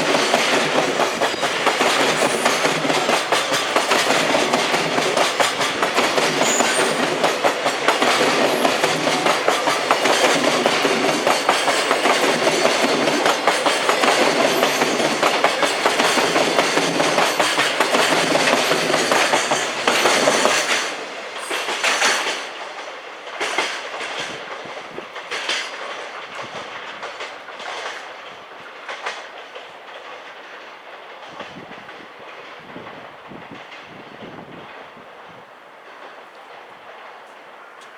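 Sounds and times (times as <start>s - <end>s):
train wheels clattering over rail joints: 0.0s - 37.9s.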